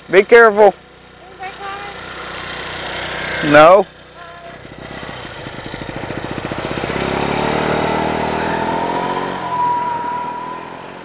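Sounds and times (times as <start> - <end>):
scooter engine revving: 0.8 - 11.0.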